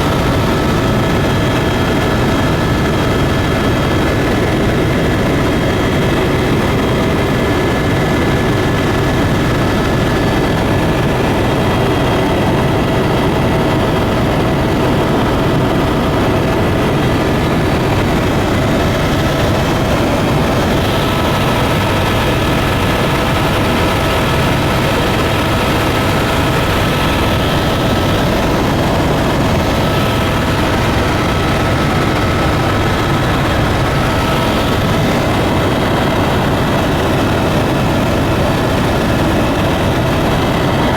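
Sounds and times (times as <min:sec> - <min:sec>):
propeller airplane engines droning: 0:00.0 - 0:40.9.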